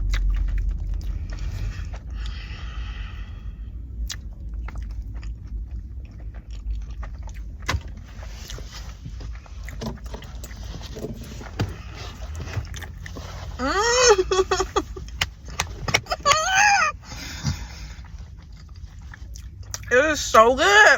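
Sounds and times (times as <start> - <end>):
person chewing food: 0.0 - 19.9
low background rumble: 0.0 - 20.9.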